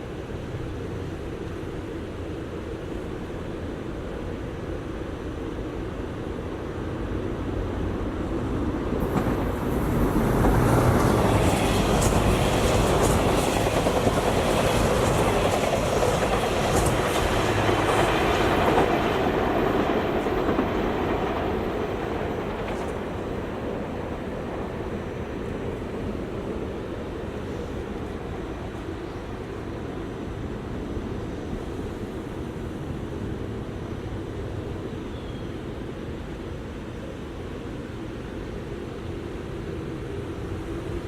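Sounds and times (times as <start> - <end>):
electric train passing: 0.1 - 35.0.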